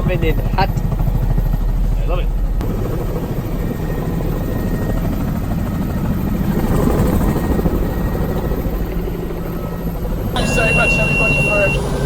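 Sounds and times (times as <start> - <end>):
helicopter drone from cabin: 0.0 - 12.0.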